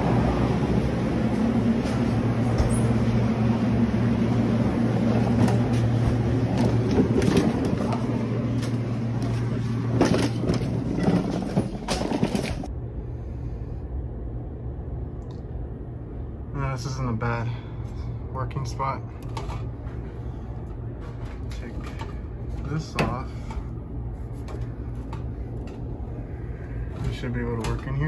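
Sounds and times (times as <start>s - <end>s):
low electrical hum: 0.0s - 28.0s
machinery drone: 0.0s - 28.0s.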